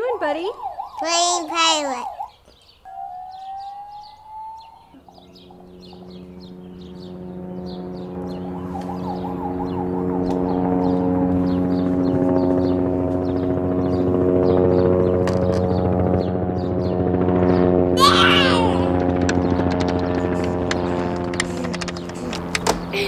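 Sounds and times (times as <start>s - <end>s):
rising siren wail: 0.0s - 15.1s, 17.3s - 23.0s
helicopter droning: 0.0s - 23.0s
warbling siren: 0.0s - 23.0s.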